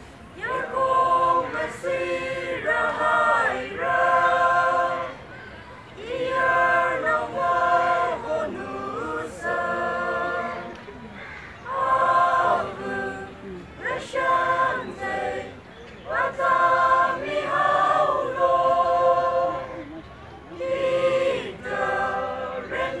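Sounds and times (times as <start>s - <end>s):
group singing unaccompanied: 0.4s - 23.0s.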